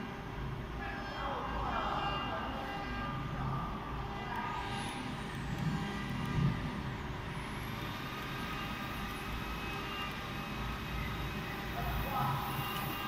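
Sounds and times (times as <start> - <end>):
high motor whine: 0.0 - 13.0.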